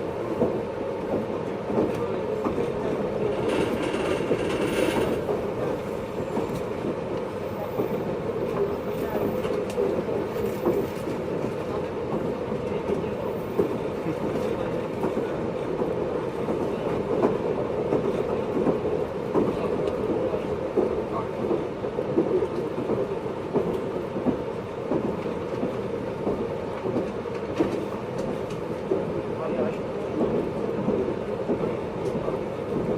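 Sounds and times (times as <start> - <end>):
train wheels rumbling: 0.0 - 32.9
train wheel clacks: 0.4 - 32.9.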